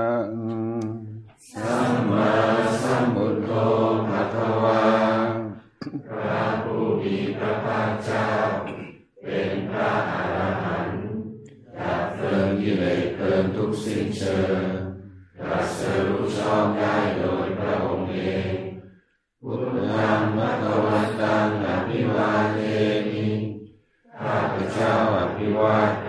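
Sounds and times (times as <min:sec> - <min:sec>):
group chanting: 0:00.0 - 0:26.0.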